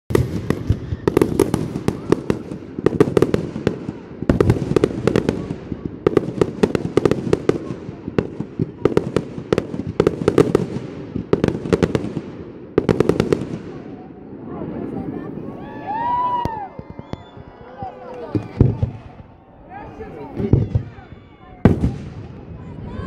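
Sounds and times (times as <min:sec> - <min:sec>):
fireworks bursting with sharp bangs: 0:00.1 - 0:23.0.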